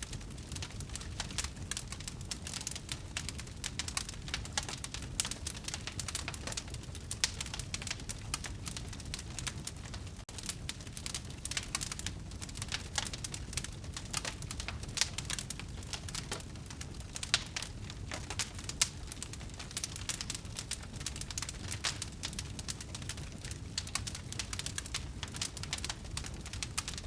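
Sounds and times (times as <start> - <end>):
rumble of flame: 0.0 - 27.0
wood fire crackling: 0.0 - 27.0.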